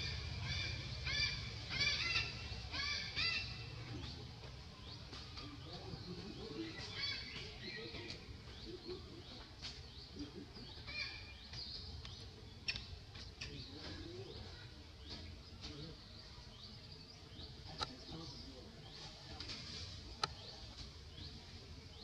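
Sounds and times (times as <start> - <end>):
low outdoor background hum: 0.0 - 22.0
small birds chirping: 0.0 - 22.0.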